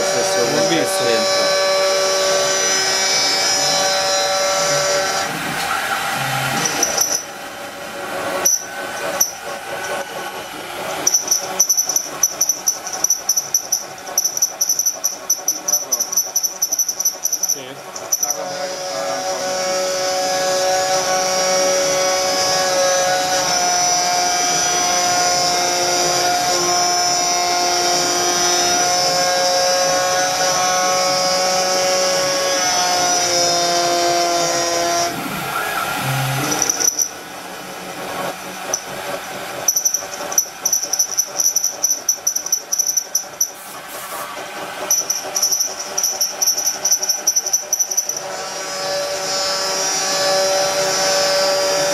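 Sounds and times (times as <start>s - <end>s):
cnc router milling metal: 0.0s - 51.9s.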